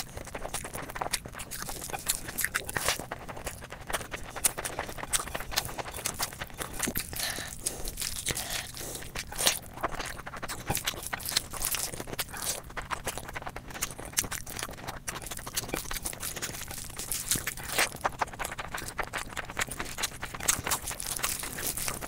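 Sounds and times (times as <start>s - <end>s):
chewing and crunching food: 0.0s - 22.0s.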